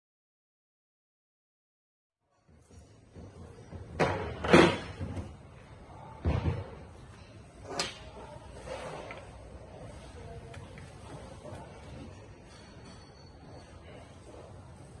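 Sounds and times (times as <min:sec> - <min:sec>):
low background noise: 0:02.3 - 0:15.0.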